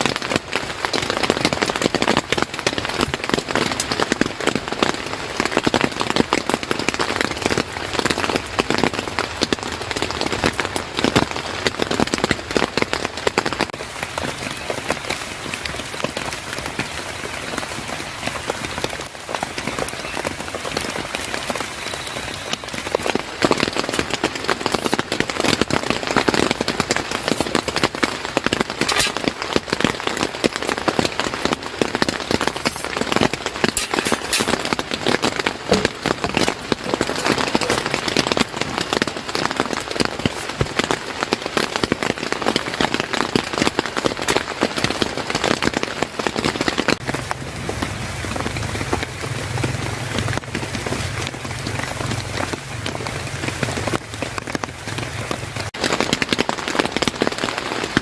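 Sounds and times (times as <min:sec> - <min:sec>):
heavy rain on a surface: 0:00.0 - 0:58.0.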